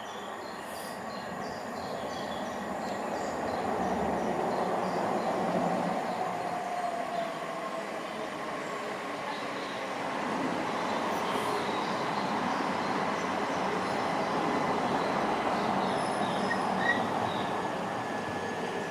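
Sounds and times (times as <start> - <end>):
electric train arriving: 0.0 - 18.9.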